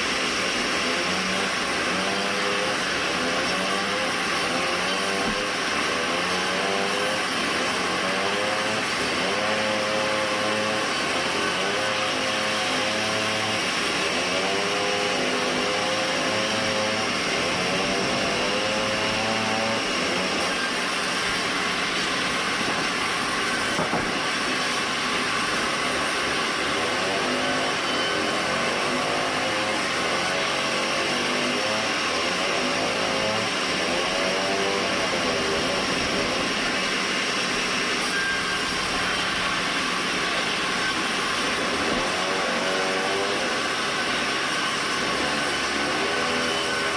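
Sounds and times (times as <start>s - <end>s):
band saw whining: 0.0s - 46.9s.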